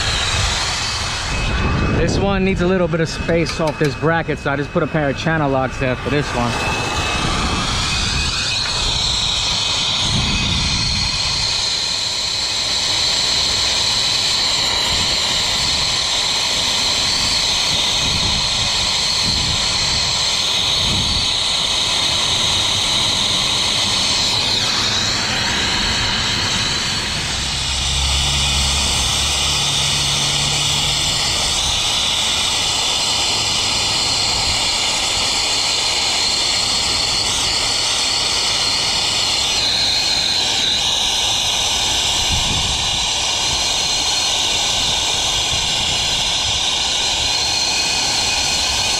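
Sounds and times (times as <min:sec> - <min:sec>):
torch flame hissing: 0:00.0 - 0:48.9.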